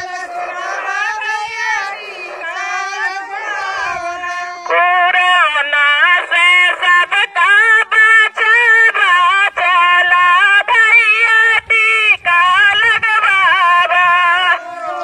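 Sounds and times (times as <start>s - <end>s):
woman singing through a megaphone: 0.0s - 15.0s.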